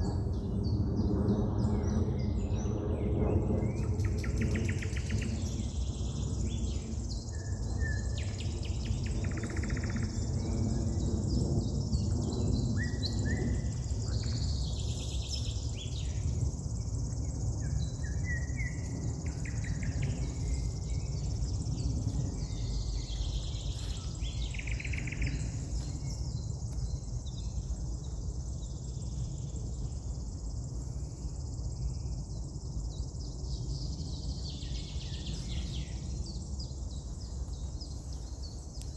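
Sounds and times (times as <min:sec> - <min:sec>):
songbirds singing and calling: 0:00.0 - 0:31.0, 0:31.7 - 0:38.9.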